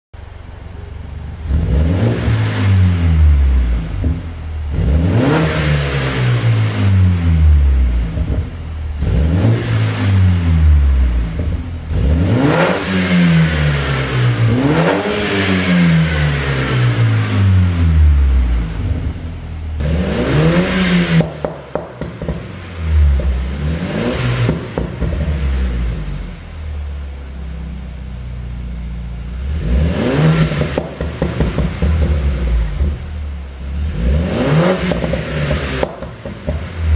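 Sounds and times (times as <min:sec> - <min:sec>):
car engine revving: 0:00.2 - 0:36.9
exhaust crackles: 0:00.2 - 0:36.9.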